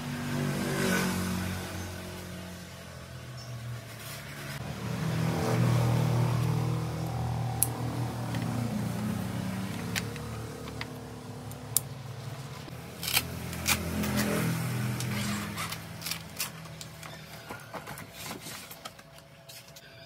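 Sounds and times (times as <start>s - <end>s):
engine humming: 0.0s - 19.3s.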